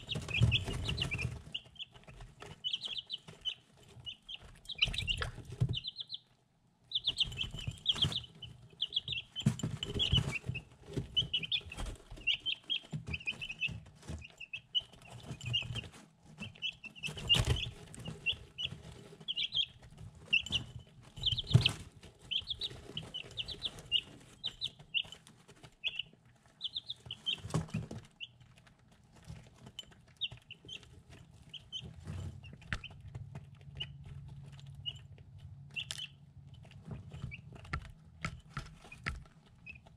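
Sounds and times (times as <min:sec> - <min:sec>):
beaks pecking ceramic dish: 0:00.0 - 0:06.2, 0:06.9 - 0:39.9
chicks peeping: 0:00.0 - 0:39.9.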